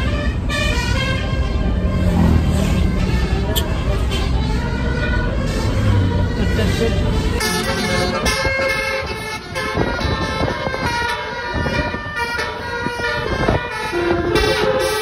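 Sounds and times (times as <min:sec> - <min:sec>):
bus horn playing a tune: 0:00.0 - 0:15.0
vehicle running on road: 0:00.0 - 0:15.0.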